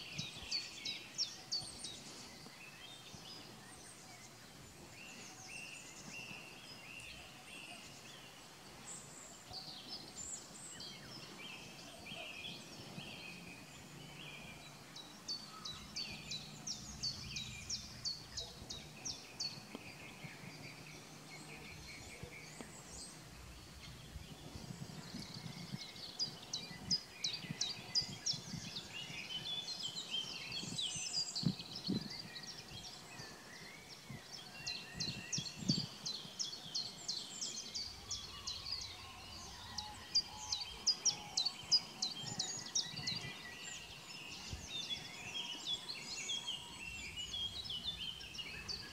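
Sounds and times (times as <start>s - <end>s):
small birds singing: 0.0s - 48.9s.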